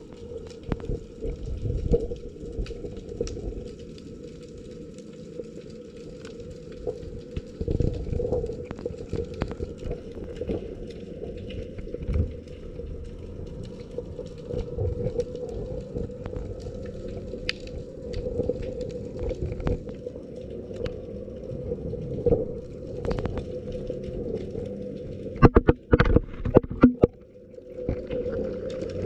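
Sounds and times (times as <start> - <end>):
crackling clicks: 0.0 - 29.0
steady low underwater hum: 0.0 - 29.0.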